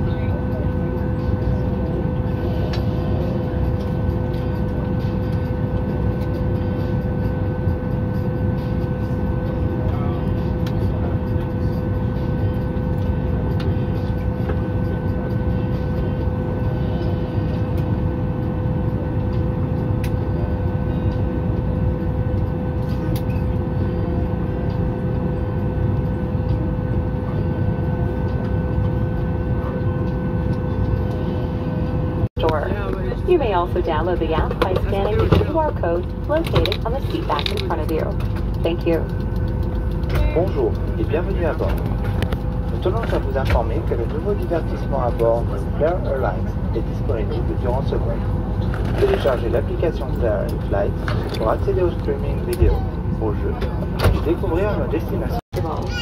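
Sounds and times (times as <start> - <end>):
aircraft cabin low rumble: 0.0 - 56.0.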